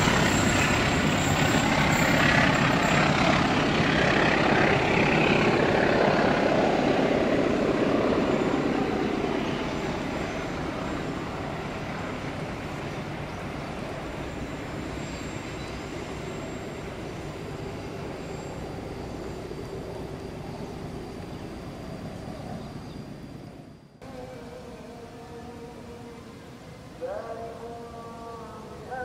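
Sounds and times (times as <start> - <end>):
train coaches rumbling over rails: 0.0 - 23.8.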